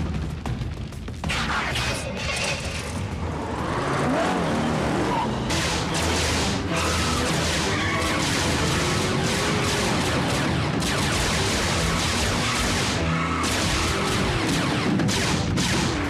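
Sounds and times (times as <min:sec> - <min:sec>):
dramatic music: 0:00.0 - 0:16.0.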